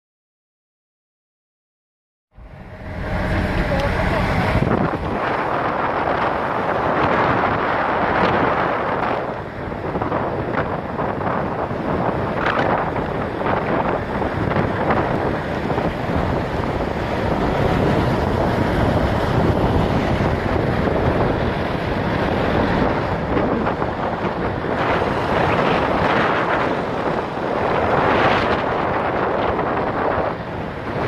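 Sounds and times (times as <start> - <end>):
car driving on road: 2.3 - 31.0
wind rushing over microphone: 2.3 - 31.0.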